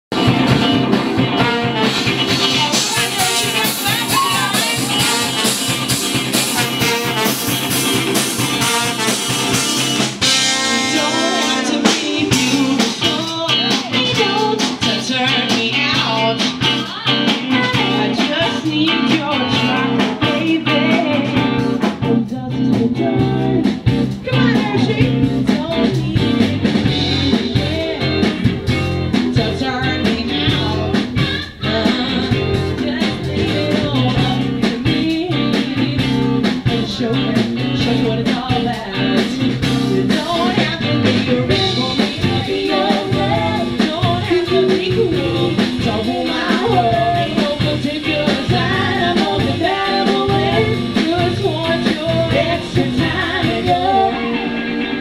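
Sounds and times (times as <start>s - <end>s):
pop-rock band playing: 0.1s - 55.0s
woman singing lead: 0.2s - 55.0s.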